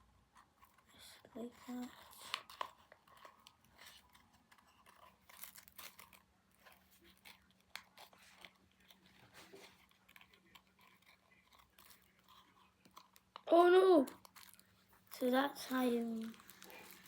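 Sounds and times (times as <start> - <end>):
craft materials crinkling and clicking: 0.4 - 17.0.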